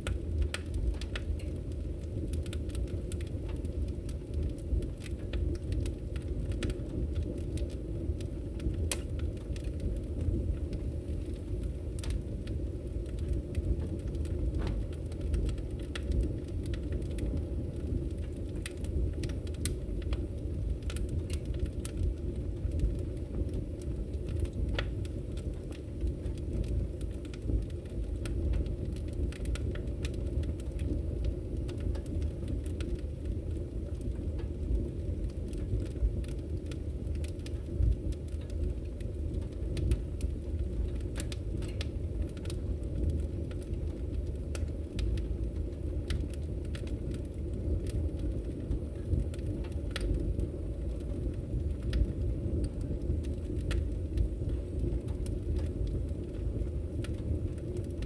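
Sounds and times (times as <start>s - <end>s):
fire crackling and popping: 0.0s - 58.0s
fire rumbling: 0.0s - 58.0s.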